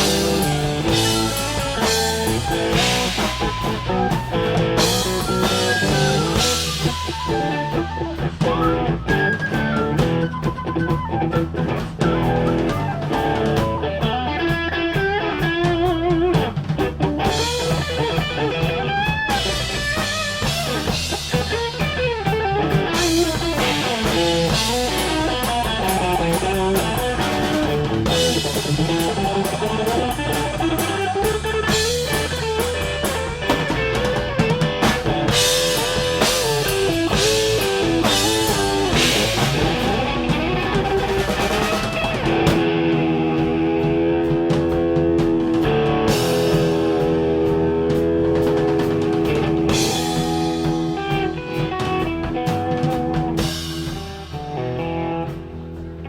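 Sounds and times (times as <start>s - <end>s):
bass guitar: 0.0s - 56.0s
drum kit: 0.0s - 56.0s
guitar lead line: 0.0s - 56.0s.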